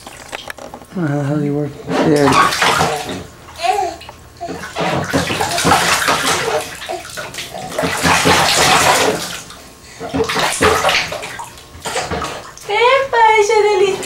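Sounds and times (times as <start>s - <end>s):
water splashing in bathtub: 0.0s - 14.0s.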